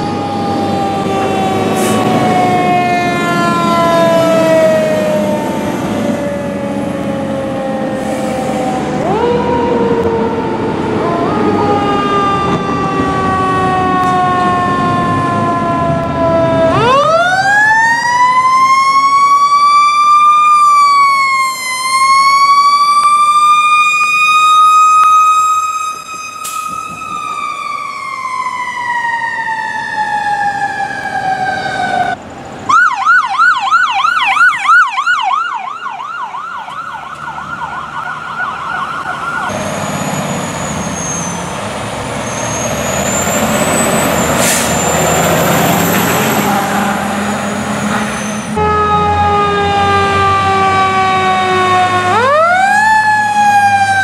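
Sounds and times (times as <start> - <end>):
electronic yelp siren: 0.0 - 39.7, 42.2 - 54.0
mechanical siren wailing: 0.0 - 39.7, 42.2 - 54.0
siren falling in pitch: 0.0 - 39.7, 42.5 - 54.0
truck engine: 0.0 - 54.0.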